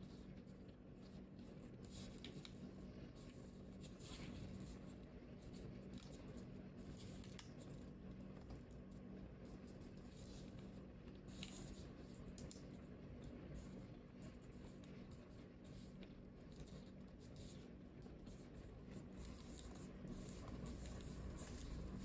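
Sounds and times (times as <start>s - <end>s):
steady low hum: 0.0s - 22.0s
paper rustling and scraping: 0.1s - 8.8s, 9.4s - 22.0s.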